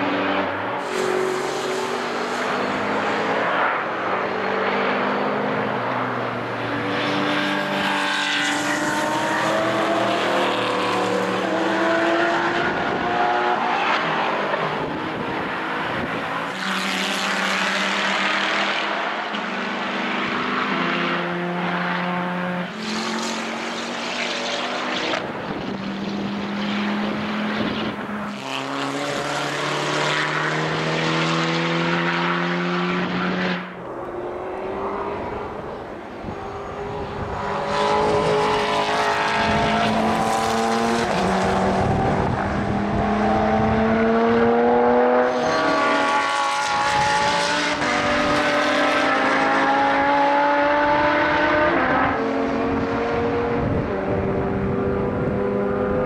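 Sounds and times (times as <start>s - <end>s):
race car engines at high revs: 0.0s - 56.0s.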